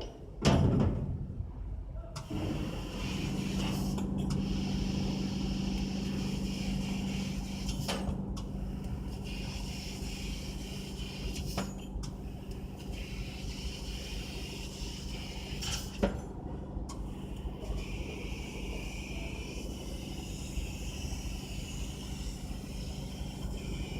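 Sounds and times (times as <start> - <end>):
laser cutter humming and hissing: 2.2 - 23.9.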